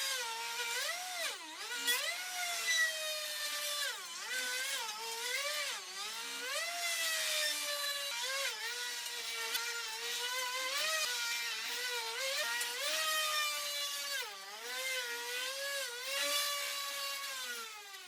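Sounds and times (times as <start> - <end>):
power tool motor whining: 0.0 - 18.0.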